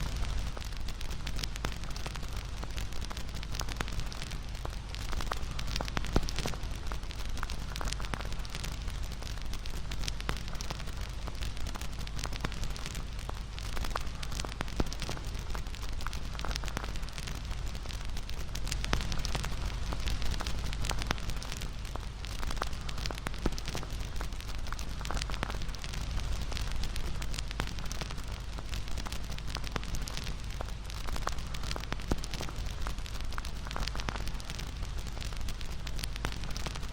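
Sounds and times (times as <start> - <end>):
burning wood crackling and popping: 0.0 - 36.9
campfire rumble: 0.0 - 36.9.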